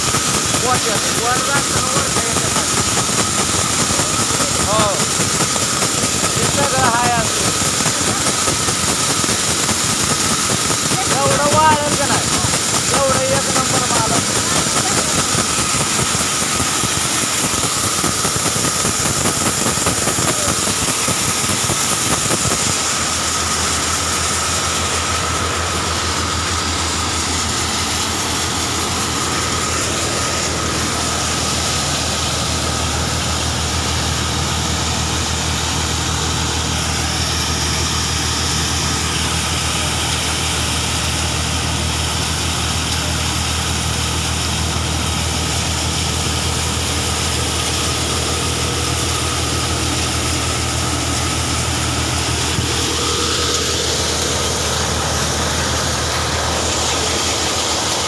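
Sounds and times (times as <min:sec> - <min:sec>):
thresher mechanical drone: 0:00.0 - 0:58.0.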